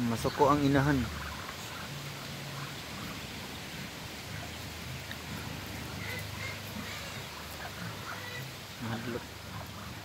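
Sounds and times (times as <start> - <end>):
background hiss: 0.0 - 10.0
ducklings peeping: 0.0 - 10.0.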